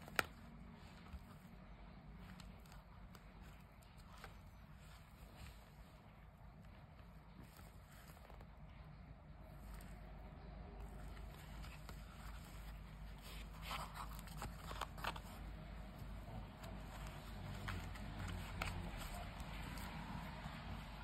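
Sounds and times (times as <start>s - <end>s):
leather wallet rustling: 0.0s - 21.0s.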